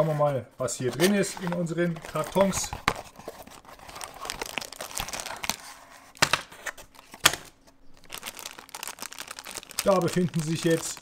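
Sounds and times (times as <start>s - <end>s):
packaging crinkling and rustling: 0.8s - 11.0s.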